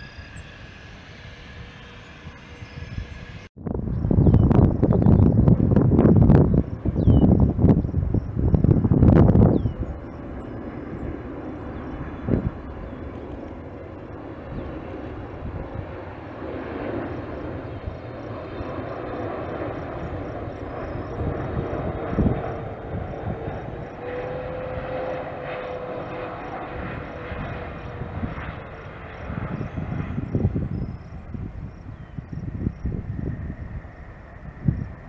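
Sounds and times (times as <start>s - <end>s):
jet engines rumbling and whining: 0.0s - 35.0s.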